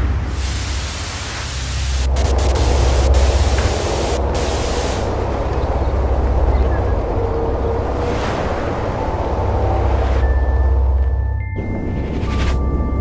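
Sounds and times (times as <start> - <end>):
deep rumble: 0.0 - 13.0.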